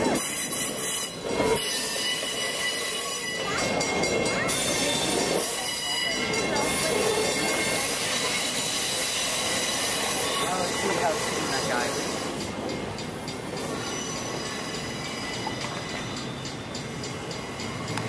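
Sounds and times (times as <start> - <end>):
train wheels squealing on rails: 0.0 - 18.0.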